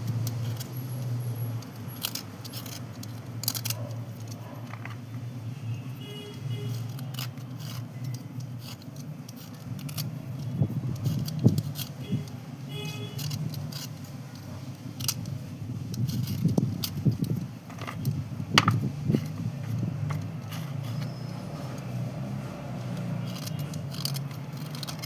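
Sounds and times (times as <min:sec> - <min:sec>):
slate pencils clicking and scraping: 0:00.0 - 0:25.0.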